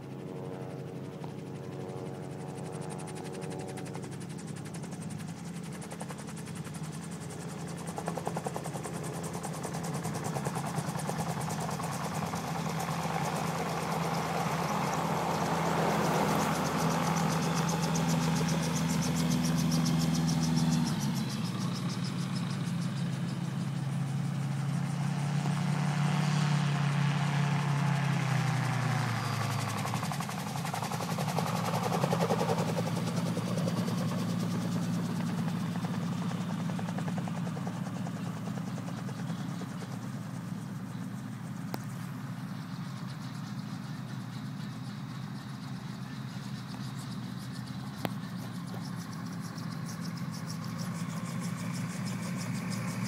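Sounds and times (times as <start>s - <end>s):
autogyro engine and propeller: 0.0s - 53.0s.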